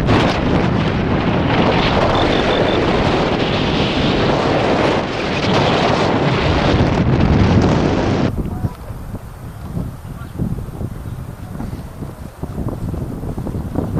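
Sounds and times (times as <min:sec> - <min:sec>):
wind buffeting the microphone: 0:00.0 - 0:13.9.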